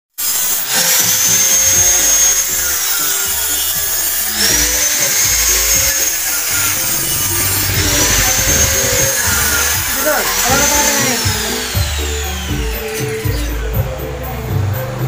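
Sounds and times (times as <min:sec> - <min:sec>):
power tool high whine: 0:00.2 - 0:14.5
music playing: 0:01.0 - 0:15.0.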